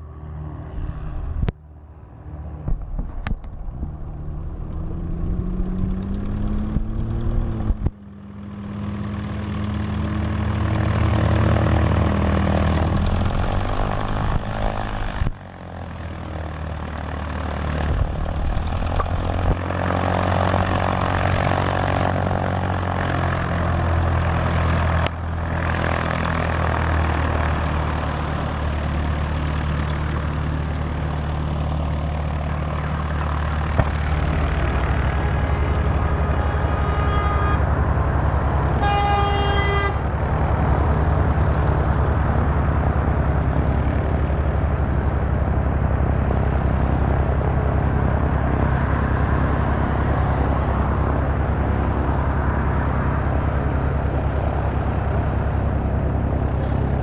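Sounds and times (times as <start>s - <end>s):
propeller plane engines: 0.0s - 57.0s.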